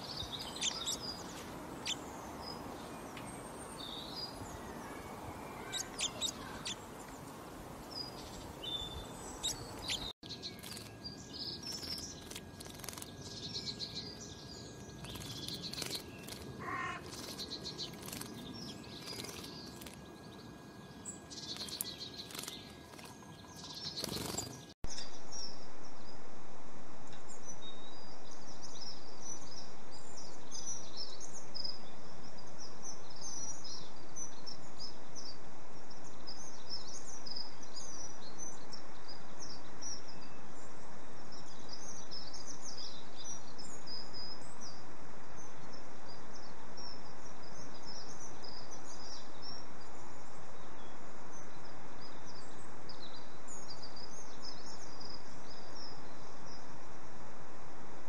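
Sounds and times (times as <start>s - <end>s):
songbirds chirping: 0.0s - 26.3s, 27.0s - 58.0s
steady background hiss: 0.0s - 58.0s.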